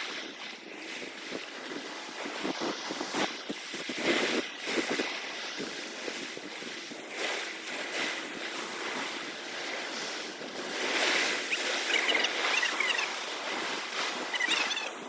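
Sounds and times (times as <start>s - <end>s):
sea water washing and splashing: 0.0s - 15.0s.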